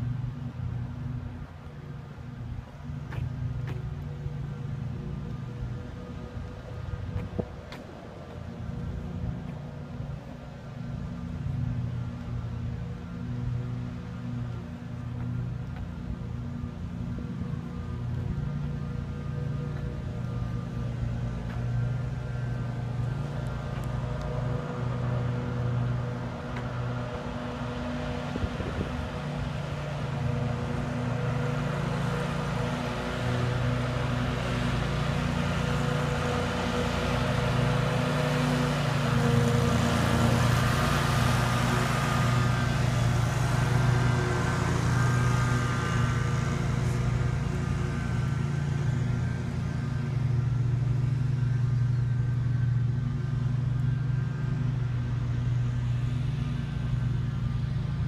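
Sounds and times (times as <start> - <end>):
riding lawn mower engine: 0.0 - 58.0.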